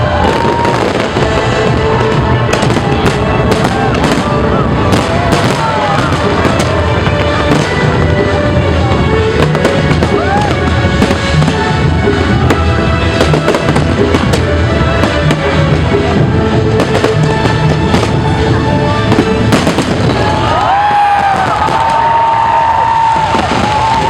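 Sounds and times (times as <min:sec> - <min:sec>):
fireworks banging and crackling: 0:00.0 - 0:24.0
music playing: 0:00.0 - 0:24.0.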